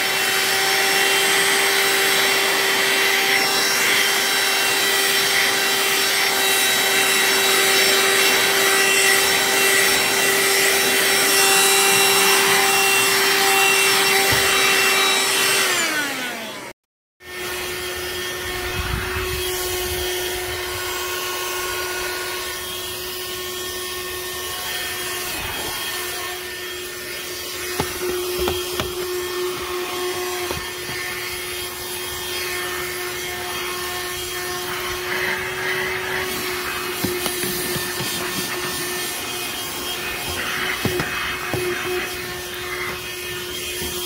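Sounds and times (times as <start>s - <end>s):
handheld vacuum running: 0.0s - 44.0s.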